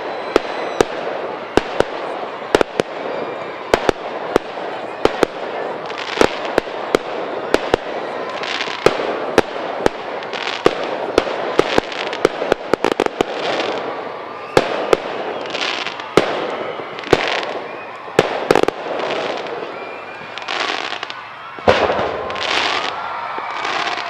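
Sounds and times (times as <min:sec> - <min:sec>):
fireworks hissing and crackling: 0:00.0 - 0:24.0.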